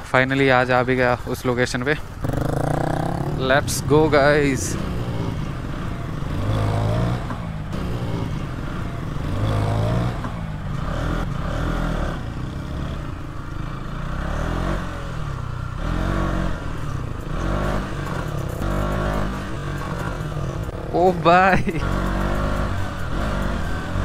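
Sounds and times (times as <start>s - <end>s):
motorcycle engine revving: 1.5s - 24.0s.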